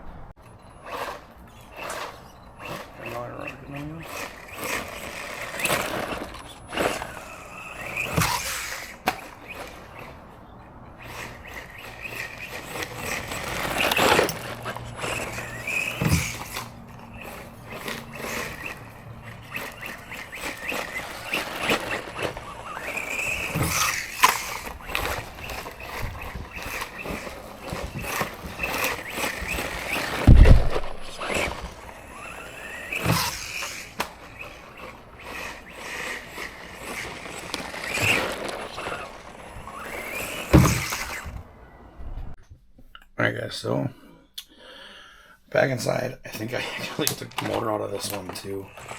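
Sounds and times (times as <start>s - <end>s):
electric motor whining: 0.0s - 42.4s, 45.9s - 48.9s
tyres scraping over ground: 0.0s - 42.4s, 45.6s - 48.9s.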